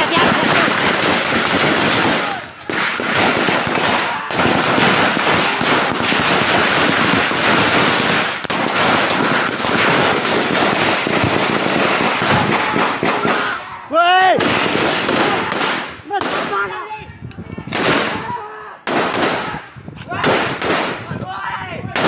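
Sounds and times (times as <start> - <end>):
heavy small-arms gunfire: 0.0 - 13.6, 14.2 - 16.7, 17.7 - 18.3, 18.9 - 21.1.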